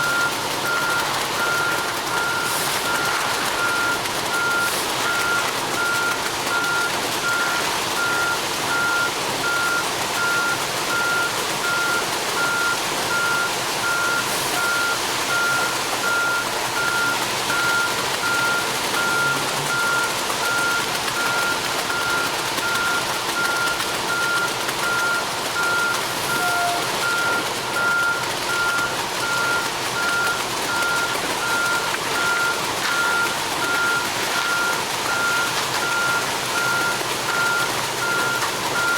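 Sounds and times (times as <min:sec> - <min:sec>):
truck reversing alarm beeping: 0:00.0 - 0:38.9.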